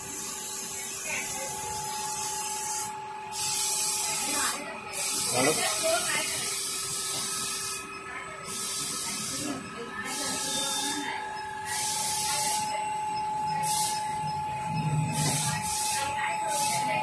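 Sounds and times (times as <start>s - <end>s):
machine motor hum with whine: 1.2s - 17.0s.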